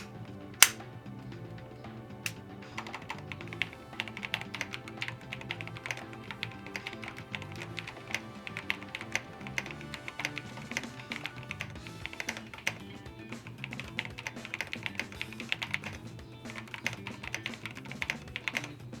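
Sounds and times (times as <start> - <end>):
background music: 0.0 - 19.0
mechanical keyboard key clicks: 2.3 - 18.8.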